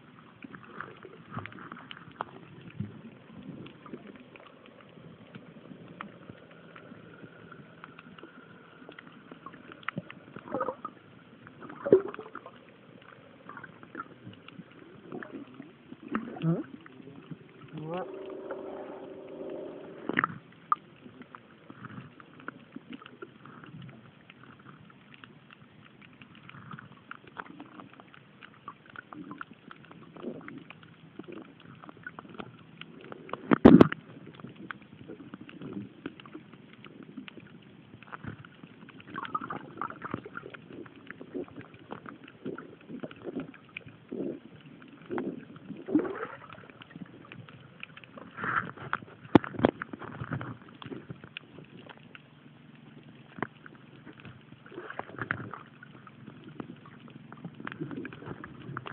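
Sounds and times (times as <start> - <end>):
underwater gurgling and bubbling: 0.0 - 58.9
underwater clicks and knocks: 0.4 - 58.9.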